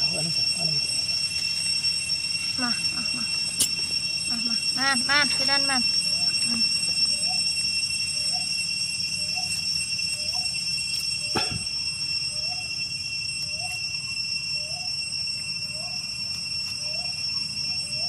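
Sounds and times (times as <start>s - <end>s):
night insects trilling: 0.0s - 18.0s.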